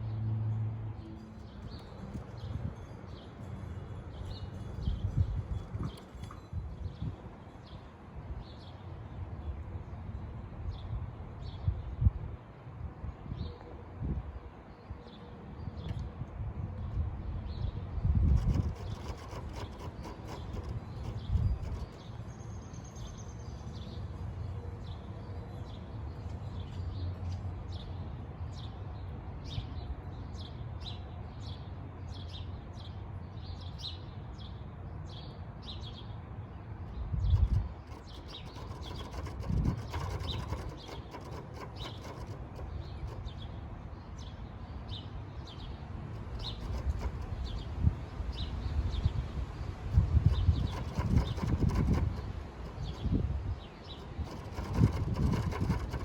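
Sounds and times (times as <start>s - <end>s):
small birds chirping: 1.0s - 9.0s, 16.8s - 56.0s.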